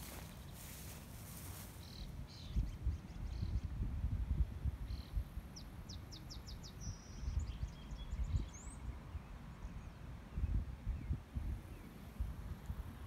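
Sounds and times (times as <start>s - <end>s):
small songbird chirping: 0.0s - 3.8s, 4.8s - 12.0s
wind rumble on microphone: 0.0s - 13.0s.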